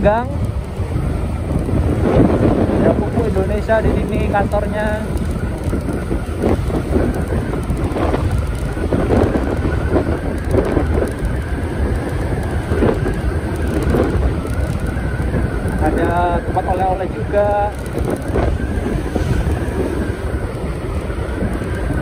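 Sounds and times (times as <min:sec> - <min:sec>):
motorcycle engine running: 0:00.0 - 0:22.0
road noise: 0:00.0 - 0:22.0
wind gusting on microphone: 0:00.0 - 0:22.0.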